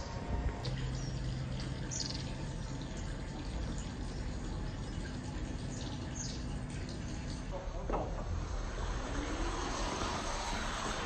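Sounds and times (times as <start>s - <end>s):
water trickling into pond: 0.0s - 11.0s.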